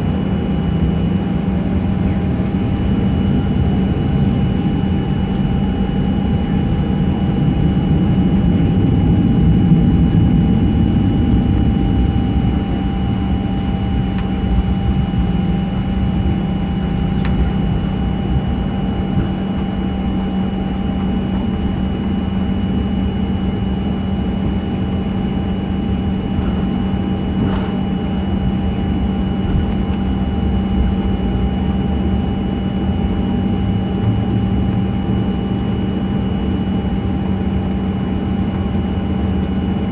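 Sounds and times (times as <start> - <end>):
airplane cabin engine rumble and whine: 0.0 - 39.9.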